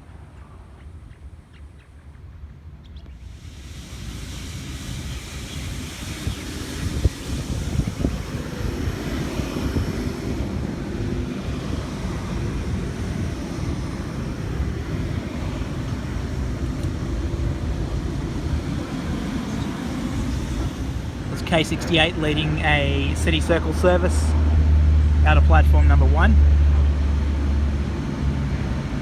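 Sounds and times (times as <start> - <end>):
wind buffeting microphone: 0.0 - 29.0
electric train running past: 3.2 - 29.0.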